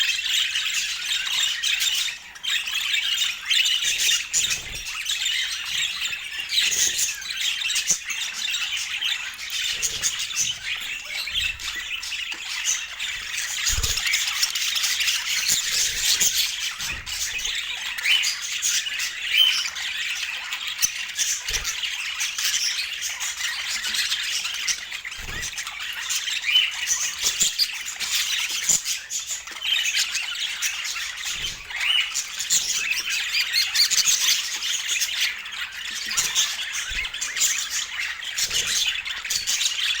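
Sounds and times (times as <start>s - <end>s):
budgerigars chattering and squawking: 0.0s - 40.0s.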